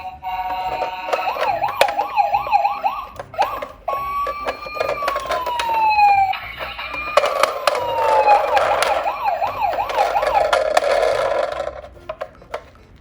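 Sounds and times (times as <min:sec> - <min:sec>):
toy electronic siren: 0:00.0 - 0:12.7
plastic toys rattling: 0:00.0 - 0:13.0.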